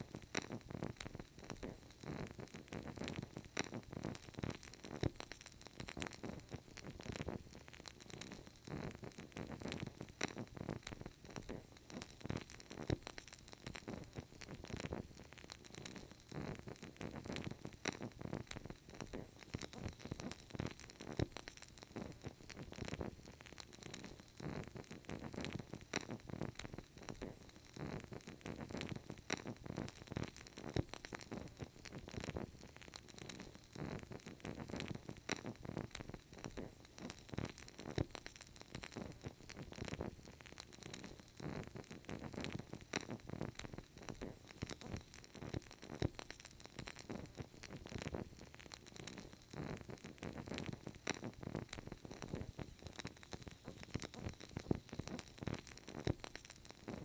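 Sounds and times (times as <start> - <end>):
candle crackling: 0.0 - 57.0
faint hiss: 0.0 - 57.0.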